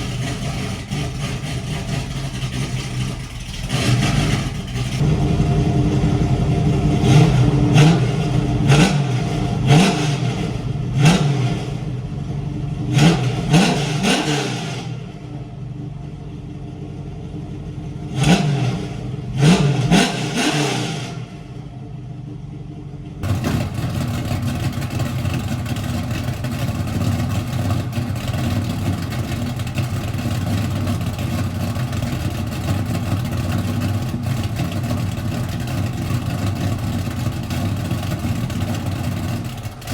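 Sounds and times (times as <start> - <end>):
car engine revving: 0.0 - 15.6, 17.9 - 21.7, 23.2 - 39.9.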